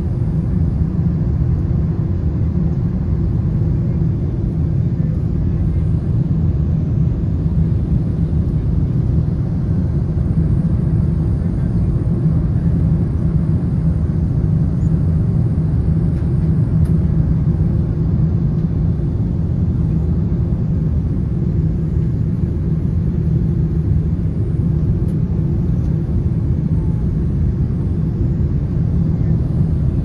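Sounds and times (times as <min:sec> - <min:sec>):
constant low hum: 0:00.0 - 0:30.0
jet engine cabin rumble: 0:00.0 - 0:30.0.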